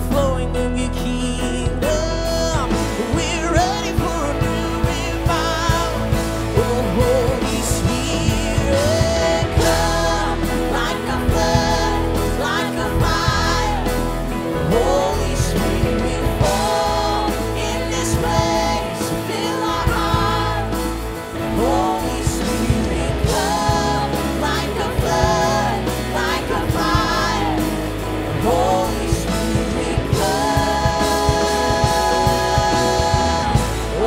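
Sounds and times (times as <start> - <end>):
guitars: 0.0 - 34.0
woman singing: 1.8 - 34.0.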